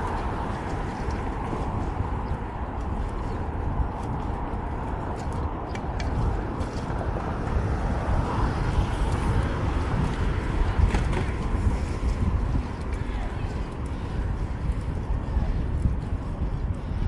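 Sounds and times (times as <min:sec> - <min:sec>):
road traffic noise: 0:00.0 - 0:17.0
wind on camera microphone: 0:00.0 - 0:17.0.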